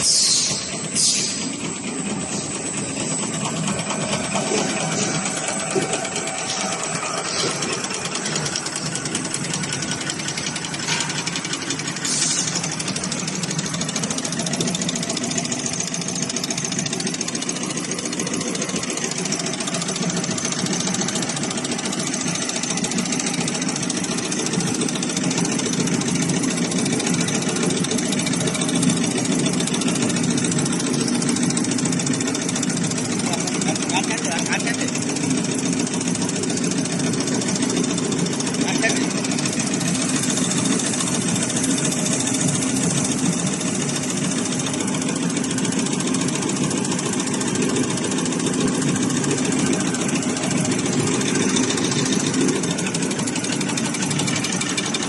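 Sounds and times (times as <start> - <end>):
machine clattering with high whine: 0.0 - 55.0.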